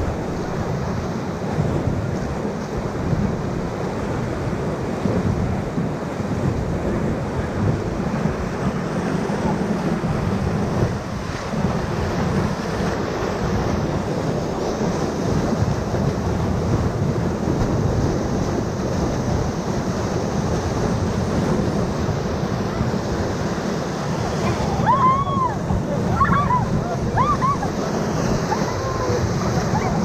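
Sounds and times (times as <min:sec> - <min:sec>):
whitewater rushing: 0:00.0 - 0:30.0
wind buffeting microphone: 0:00.0 - 0:30.0.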